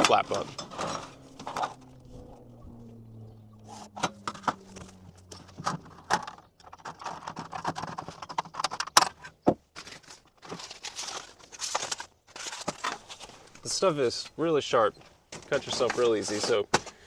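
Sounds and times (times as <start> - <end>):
aluminum sheet rattling and crinkling: 0.0 - 2.0, 4.0 - 14.2, 15.0 - 17.0.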